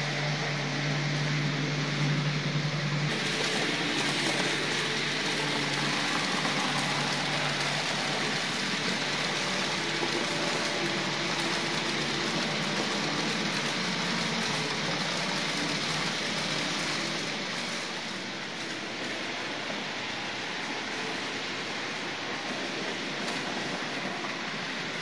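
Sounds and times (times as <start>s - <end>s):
faint motor hum: 0.0s - 25.0s
model train wheels on rails: 0.0s - 25.0s.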